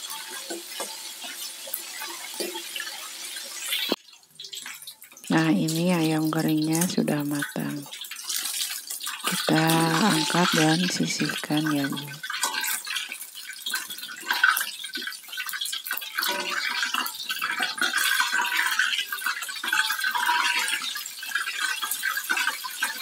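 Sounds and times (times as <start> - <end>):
hot oil sizzling and crackling: 0.0 - 23.0.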